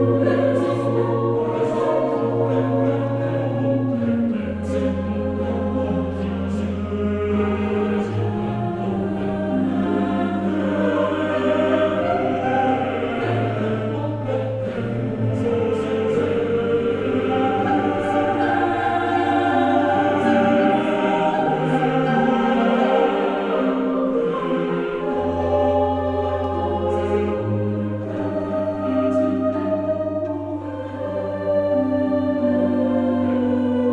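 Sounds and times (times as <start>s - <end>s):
slow choral music: 0.0s - 33.9s.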